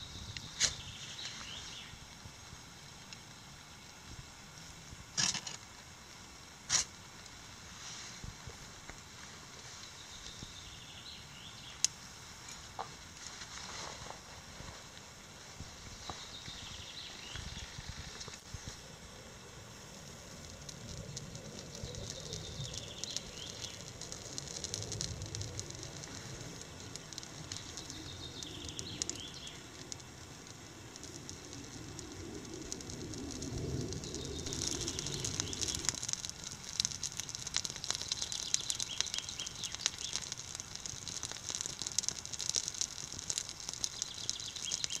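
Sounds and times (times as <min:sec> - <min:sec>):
fire crackling: 0:00.0 - 0:45.0.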